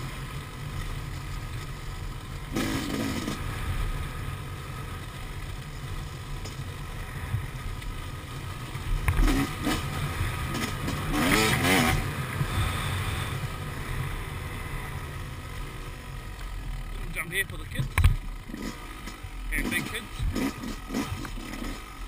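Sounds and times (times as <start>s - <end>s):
dirt bike engine revving: 2.3s - 5.5s, 6.6s - 22.0s.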